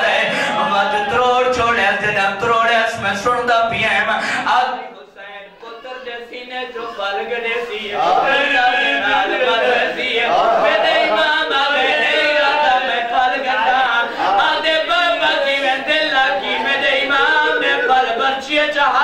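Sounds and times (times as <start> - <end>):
man chanting: 0.0 - 10.1, 10.8 - 19.0.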